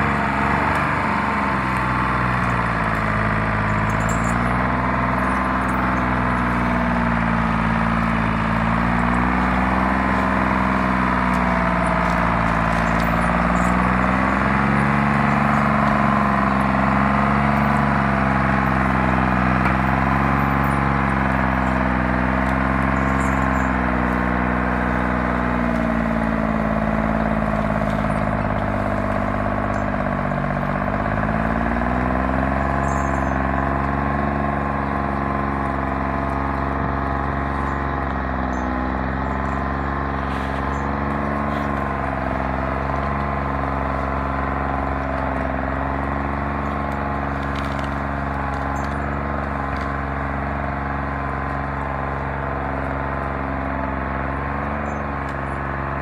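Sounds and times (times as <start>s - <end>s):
diesel engine running: 0.0s - 56.0s
logs dragging: 0.0s - 56.0s.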